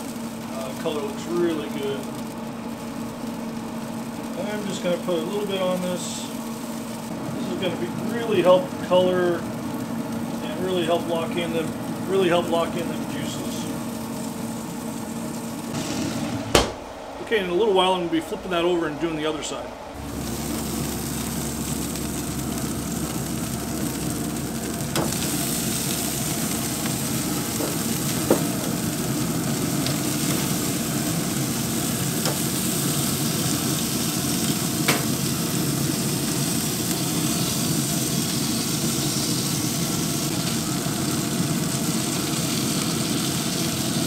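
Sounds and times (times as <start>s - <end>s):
chicken sizzling on a grill: 0.0s - 16.2s, 20.0s - 44.0s.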